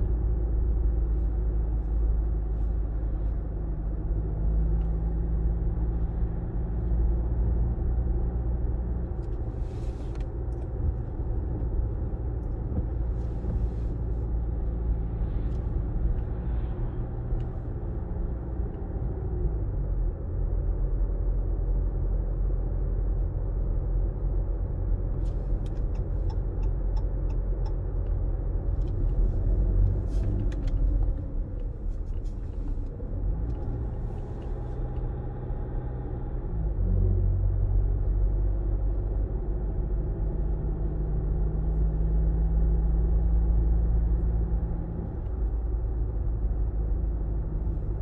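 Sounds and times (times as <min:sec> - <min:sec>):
vehicle engine and tyre rumble: 0:00.0 - 0:48.0.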